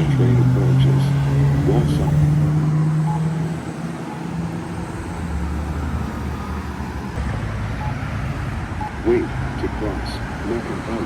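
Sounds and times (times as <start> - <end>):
road traffic engines running: 0.0 - 11.0.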